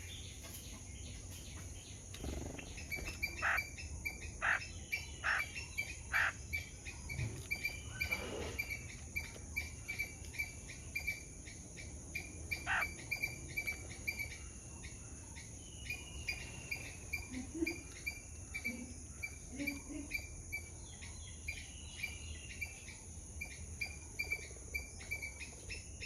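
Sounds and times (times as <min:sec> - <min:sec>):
bird chirping: 0:00.0 - 0:26.0
insect hiss: 0:00.0 - 0:26.0.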